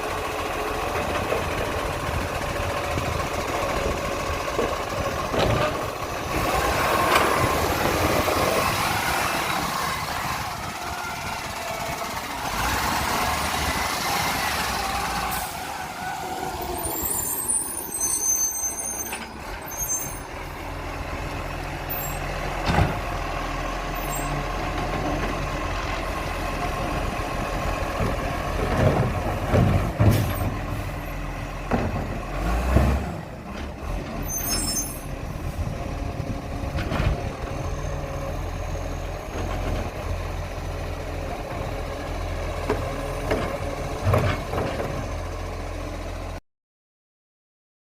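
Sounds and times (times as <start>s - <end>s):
garbage truck running: 0.0s - 46.4s.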